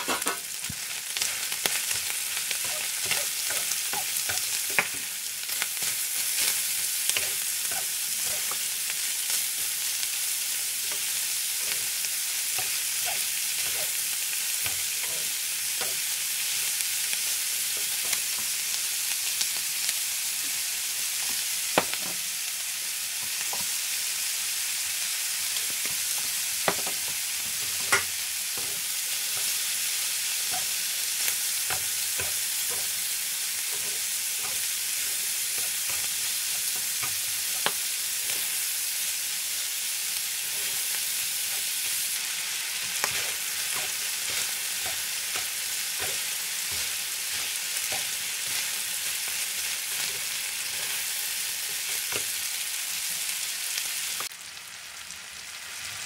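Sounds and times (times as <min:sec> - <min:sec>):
stir-fry sizzling in a frying pan: 0:00.0 - 0:56.0.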